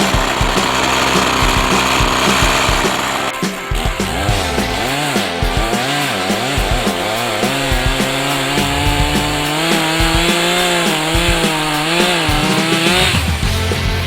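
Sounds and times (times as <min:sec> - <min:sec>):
chainsaw cutting wood: 0:00.0 - 0:13.4.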